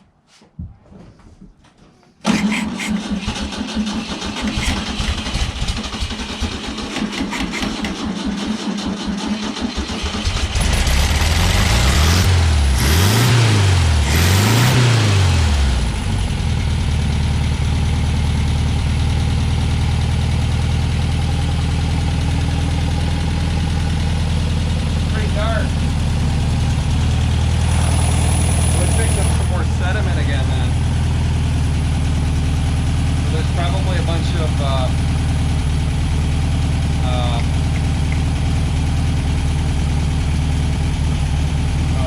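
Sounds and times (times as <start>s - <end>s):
car engine cranking and revving: 2.2s - 42.0s.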